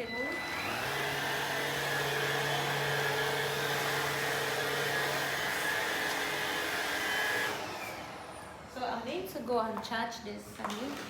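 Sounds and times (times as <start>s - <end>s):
vacuum cleaner whirring: 0.0s - 9.6s, 10.5s - 11.0s.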